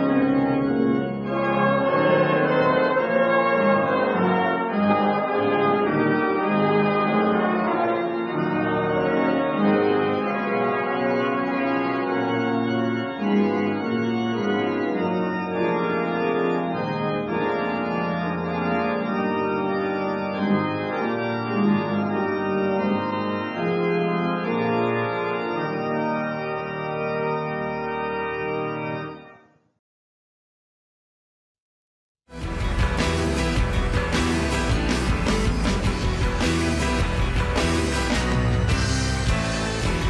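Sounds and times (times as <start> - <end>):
church organ playing chords: 0.0 - 29.6, 32.4 - 40.0.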